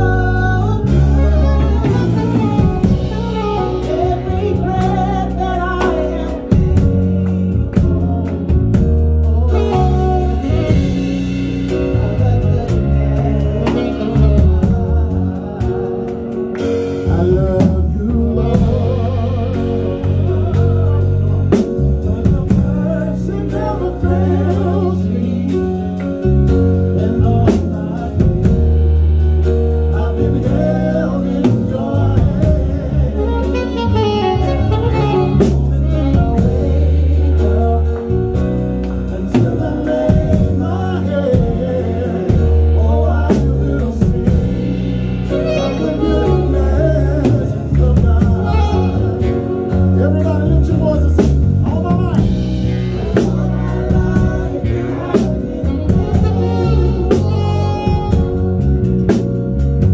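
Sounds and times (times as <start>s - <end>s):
drum kit beat: 0.0s - 59.9s
electric bass notes: 0.0s - 59.9s.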